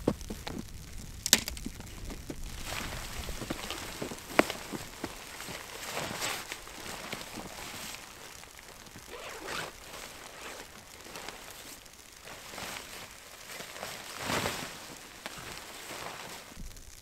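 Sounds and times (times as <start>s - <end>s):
nylon fabric rustling: 1.8s - 17.0s.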